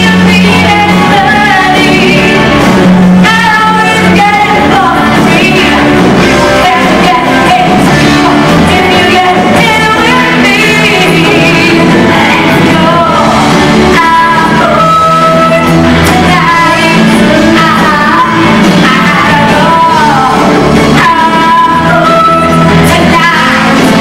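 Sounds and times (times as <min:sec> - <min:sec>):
live rock band: 0:00.0 - 0:24.0
woman singing rock: 0:00.0 - 0:24.0.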